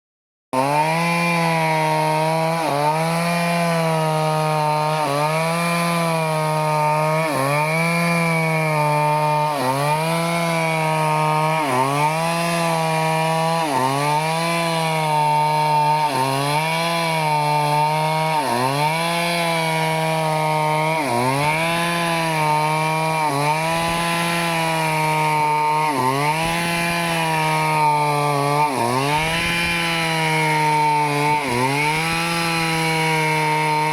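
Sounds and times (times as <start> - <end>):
chainsaw cutting wood: 0.5 - 33.9.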